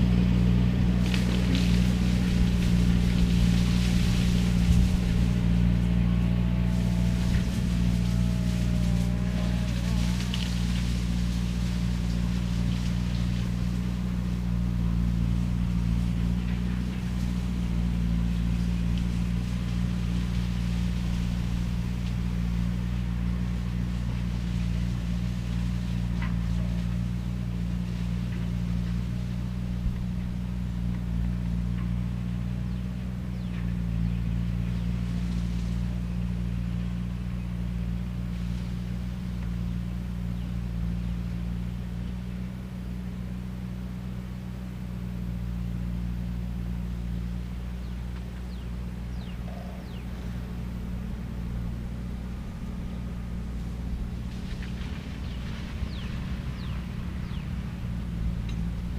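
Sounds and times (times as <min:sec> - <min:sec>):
machine drone: 0:00.0 - 0:58.9
faint crackles: 0:00.6 - 0:42.8, 0:46.6 - 0:58.9.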